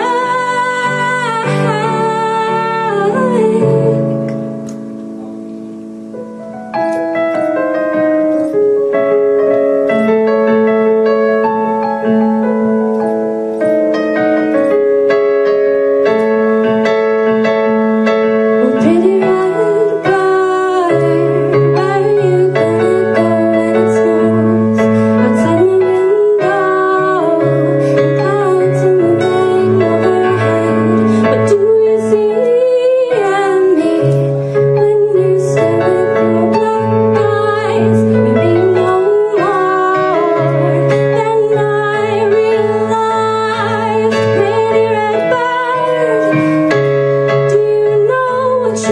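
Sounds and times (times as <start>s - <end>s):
electronic keyboard chords: 0.0s - 48.9s.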